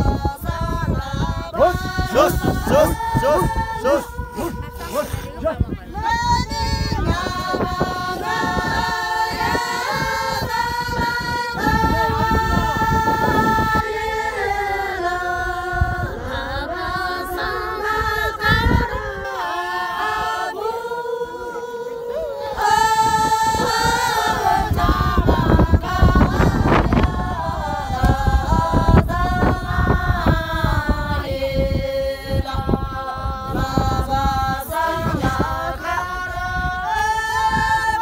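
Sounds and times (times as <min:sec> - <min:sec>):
women singing in unison: 0:00.0 - 0:38.0.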